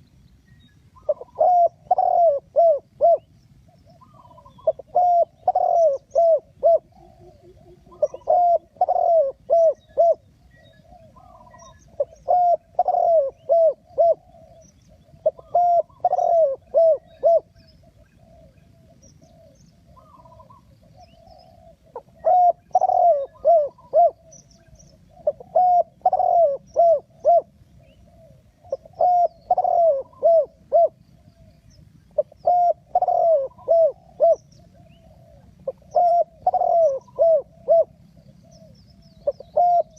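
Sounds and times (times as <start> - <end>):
small birds chirping: 0.0 - 39.9
dove cooing: 1.0 - 39.9.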